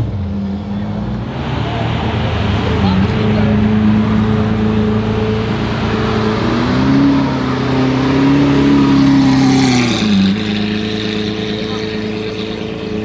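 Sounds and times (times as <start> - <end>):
sports car engine rolling past: 0.0 - 13.0.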